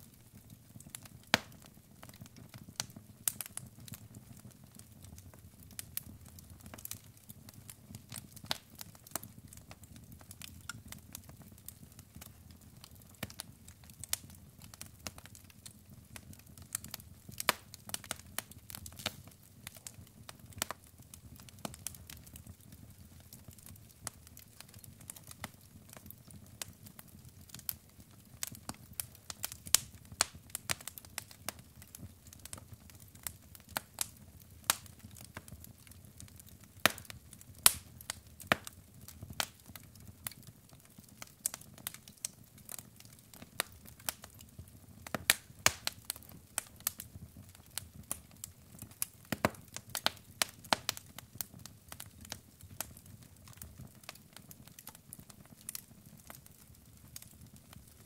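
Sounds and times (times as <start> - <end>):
log fire crackling: 0.0 - 58.0.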